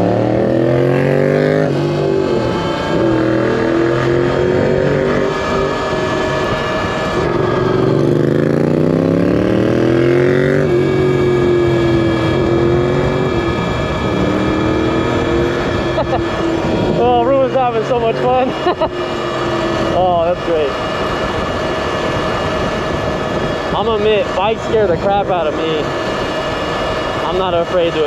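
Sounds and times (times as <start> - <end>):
wind rushing: 0.0 - 27.6
motorcycle engine accelerating: 0.0 - 28.0.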